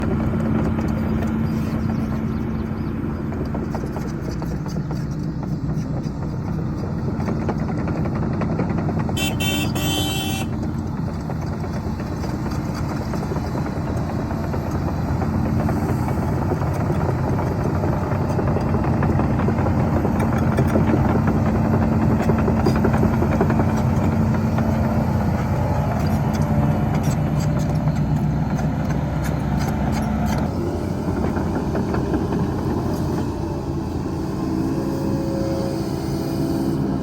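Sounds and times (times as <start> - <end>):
diesel earthmoving machinery running: 0.0 - 37.0.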